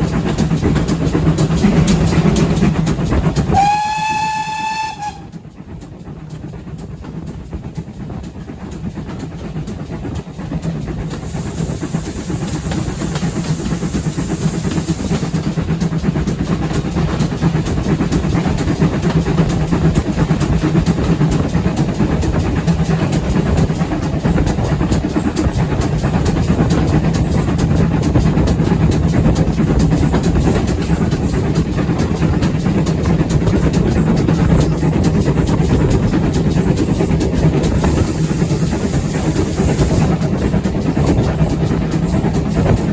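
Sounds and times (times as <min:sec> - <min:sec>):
high steam hiss: 0:00.0 - 0:42.9
steam train rumbling on rails: 0:00.0 - 0:42.9.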